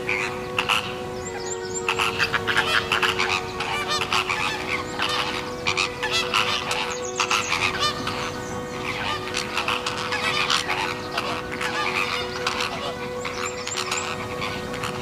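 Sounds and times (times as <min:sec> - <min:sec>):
flamingos honking: 0:00.0 - 0:15.0.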